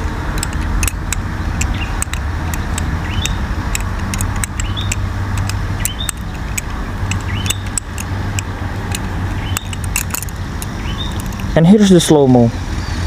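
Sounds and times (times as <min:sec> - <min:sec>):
steady low hum: 0:00.0 - 0:11.9
butterfly knife clicking: 0:00.3 - 0:11.6.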